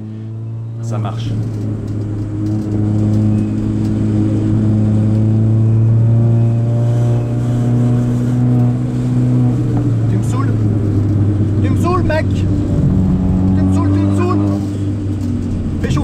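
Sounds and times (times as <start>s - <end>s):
car engine pulling under load: 0.0s - 16.0s.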